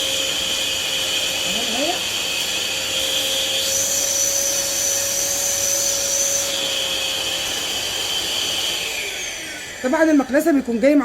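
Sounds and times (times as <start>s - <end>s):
vacuum cleaner whining: 0.0s - 11.0s.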